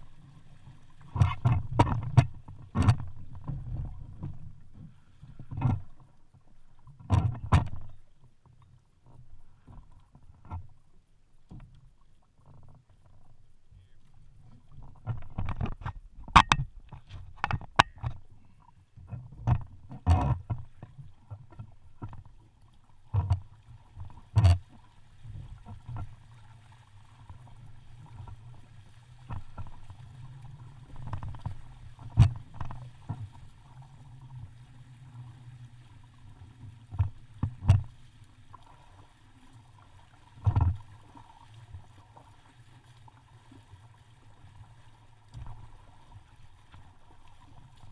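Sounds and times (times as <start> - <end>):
water splashes: 0.0 - 47.9.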